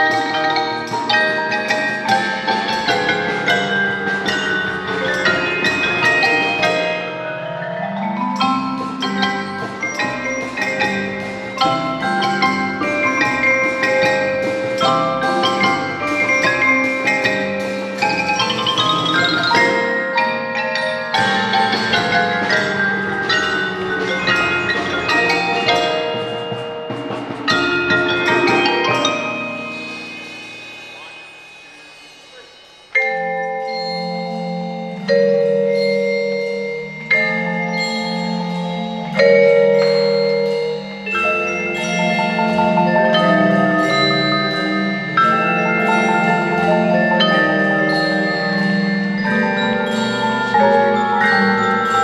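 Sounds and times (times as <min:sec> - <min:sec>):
mallet percussion notes: 0:00.0 - 0:52.0.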